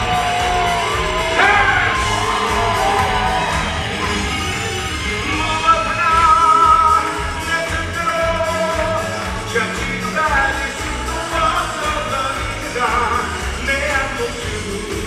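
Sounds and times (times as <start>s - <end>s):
pop-rock band music: 0.0s - 15.0s.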